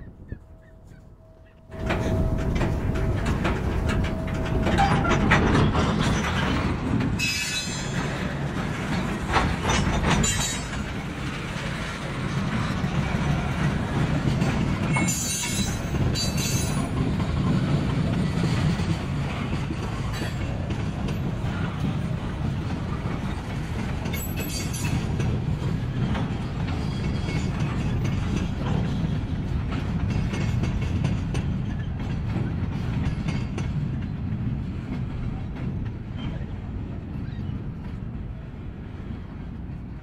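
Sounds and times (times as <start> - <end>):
freight train wheels rumbling on rail: 0.0 - 40.0
train cars clicking and clanking: 0.0 - 40.0.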